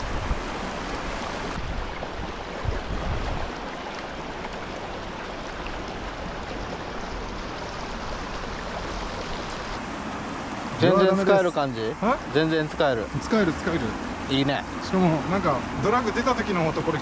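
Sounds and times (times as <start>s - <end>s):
creek water flowing over rocks: 0.0s - 17.0s.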